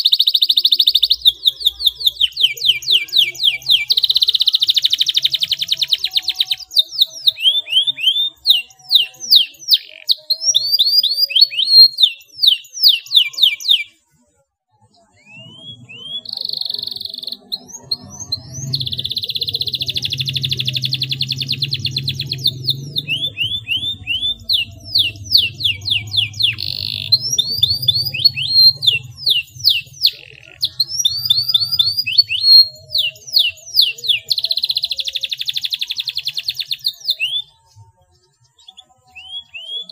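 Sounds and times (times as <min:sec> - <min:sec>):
canary singing trilled song: 0:00.0 - 0:14.1, 0:14.7 - 0:39.9.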